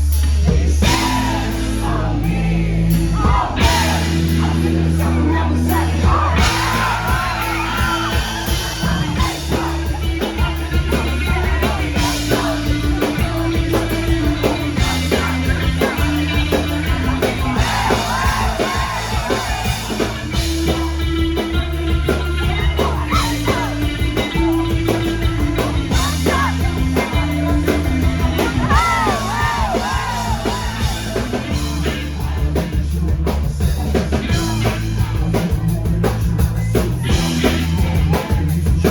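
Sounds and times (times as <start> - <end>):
rock band playing: 0.0 - 38.9
person singing: 0.6 - 38.9.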